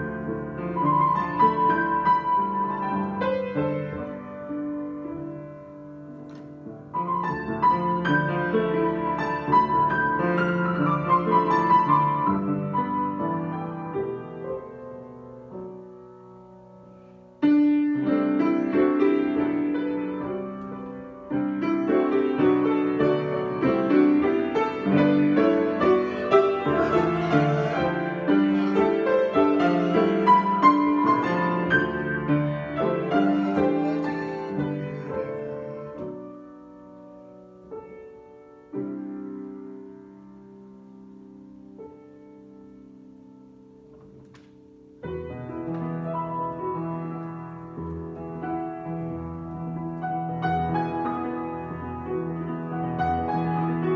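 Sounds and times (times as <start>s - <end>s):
solo piano playing: 0.0s - 53.9s.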